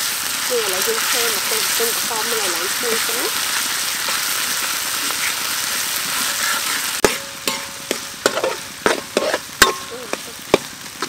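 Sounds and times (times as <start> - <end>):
food sizzling in hot oil: 0.0 - 11.0
metal spatula scraping wok: 1.0 - 10.8.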